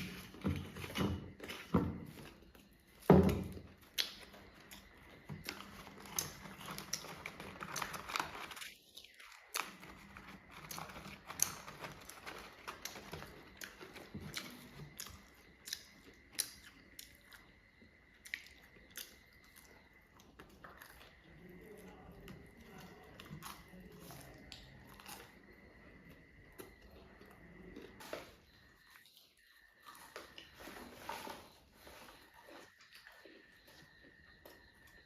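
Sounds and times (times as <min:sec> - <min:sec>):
person chewing crunchy food: 0:00.0 - 0:35.0.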